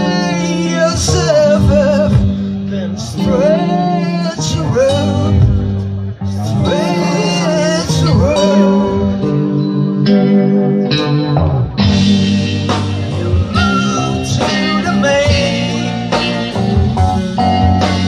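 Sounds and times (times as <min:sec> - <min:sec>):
electric guitar: 0:00.0 - 0:18.0
live rock band playing: 0:00.0 - 0:18.0.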